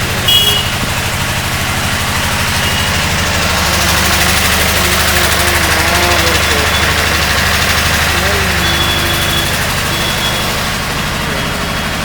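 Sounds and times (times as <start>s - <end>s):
engine running a dynamo: 0.0s - 12.0s.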